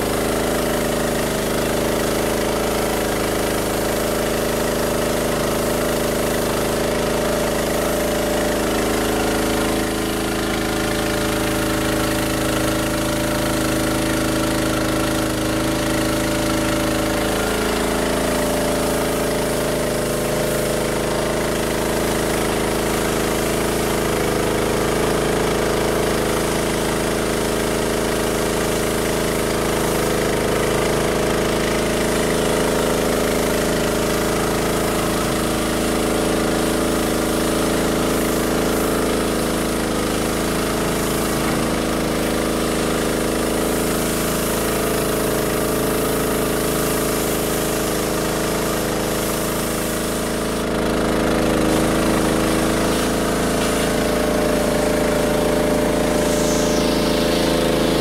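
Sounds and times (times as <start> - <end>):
gas engine running: 0.0 - 58.0
water jet hissing: 0.0 - 58.0.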